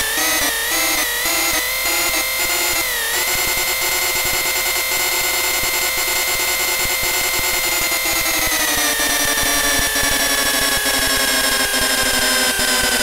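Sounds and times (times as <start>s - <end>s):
whining lathe spindle: 0.0s - 13.0s.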